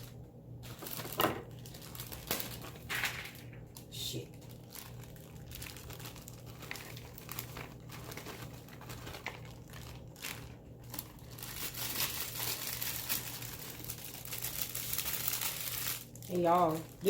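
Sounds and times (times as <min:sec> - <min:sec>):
low steady hum: 0:00.0 - 0:17.0
plastic packaging crinkling: 0:00.0 - 0:17.0.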